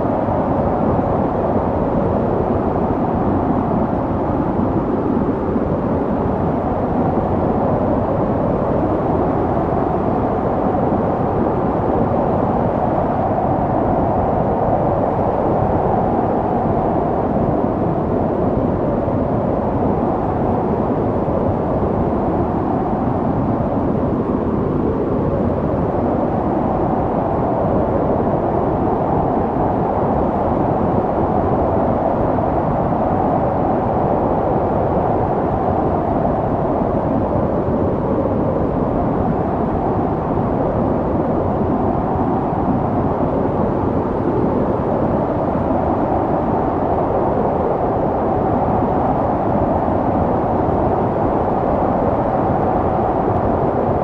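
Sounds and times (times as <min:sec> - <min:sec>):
snowstorm wind blowing: 0:00.0 - 0:54.0.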